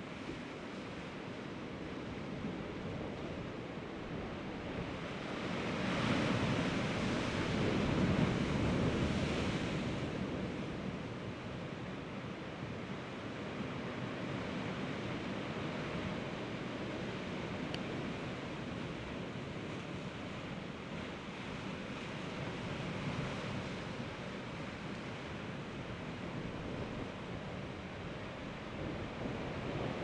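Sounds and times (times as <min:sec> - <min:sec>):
sea surf on rocky shore: 0:00.0 - 0:30.0.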